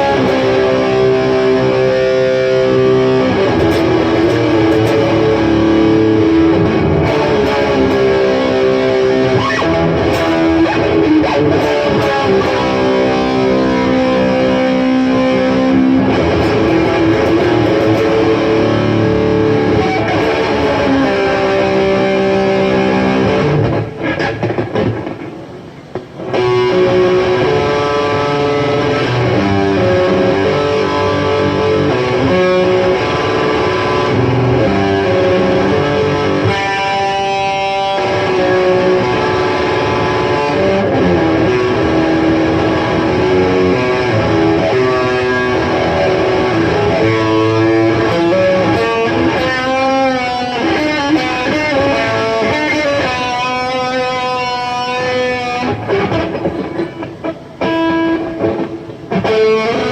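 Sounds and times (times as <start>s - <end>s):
electric guitar melody: 0.0s - 59.9s.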